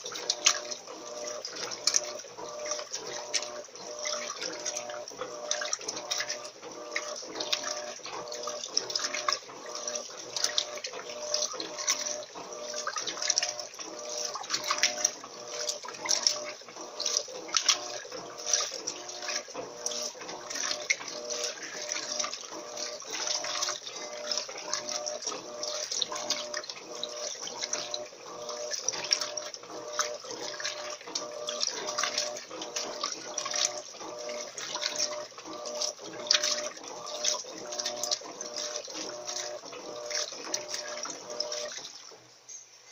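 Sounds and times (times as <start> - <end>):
pulsing motor hum: 0.0 - 42.5
washing machine water sloshing: 0.0 - 42.9.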